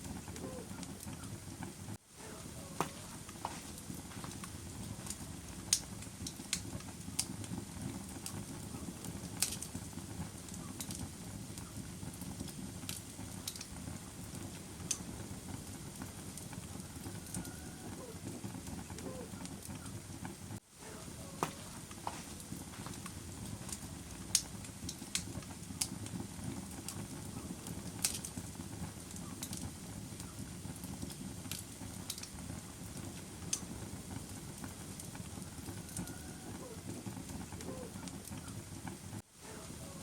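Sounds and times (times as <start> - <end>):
campfire flames rushing: 0.0 - 40.0
fire crackles and pops: 0.0 - 40.0.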